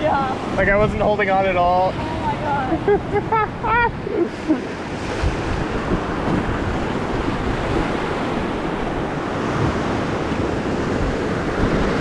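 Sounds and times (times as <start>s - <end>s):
river rapids rushing and splashing: 0.0s - 12.0s
wind buffeting microphone: 0.0s - 12.0s.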